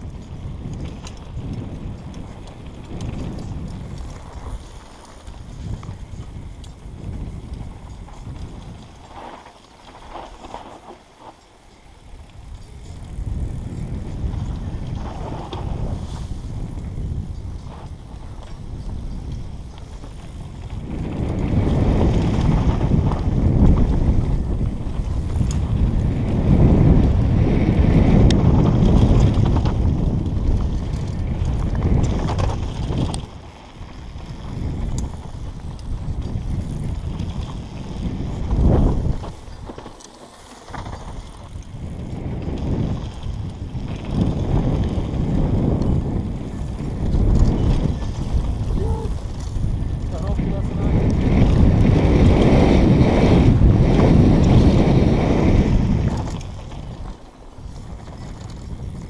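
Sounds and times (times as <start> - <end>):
mountain bike rattling over dirt trail: 0.0 - 59.0
wind buffeting microphone: 0.0 - 59.0.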